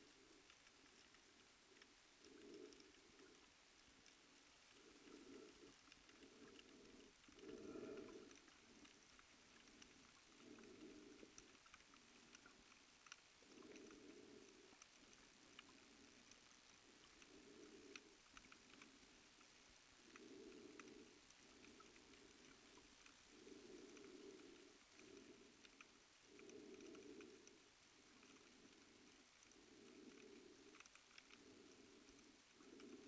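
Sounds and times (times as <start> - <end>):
tiny clicks: 0.2 - 33.0.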